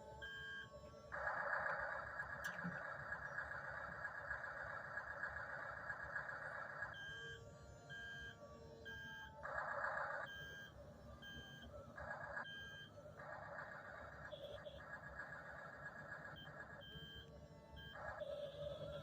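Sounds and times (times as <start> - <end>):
electronic warning beep: 0.0 - 19.0.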